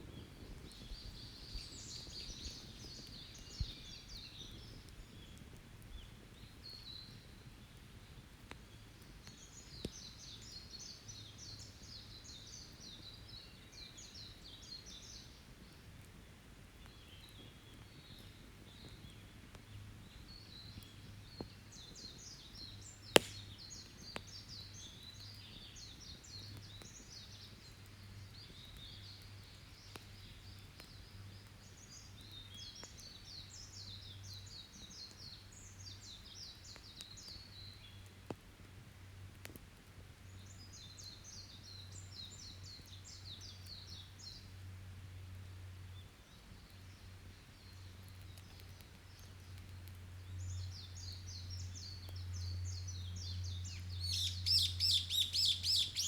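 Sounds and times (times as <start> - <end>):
songbird singing: 0.0 - 38.2, 40.2 - 56.0
campfire crackling: 0.0 - 56.0.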